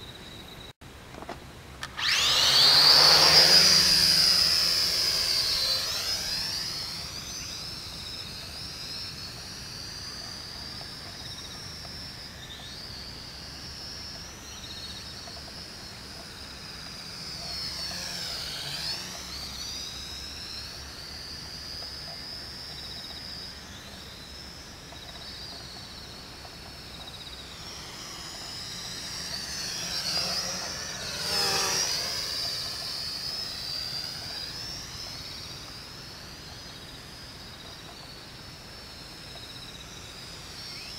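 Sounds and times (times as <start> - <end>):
toy quadcopter propellers whining: 1.8 - 40.9.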